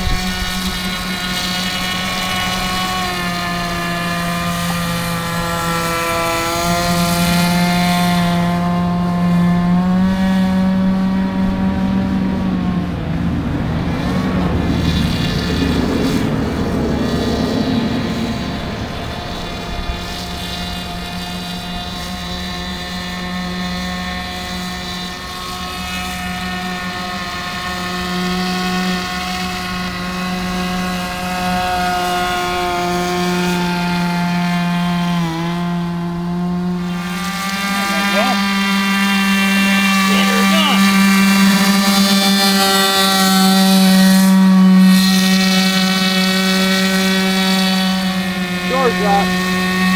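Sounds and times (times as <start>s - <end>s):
model airboat engine buzzing: 0.0s - 49.9s.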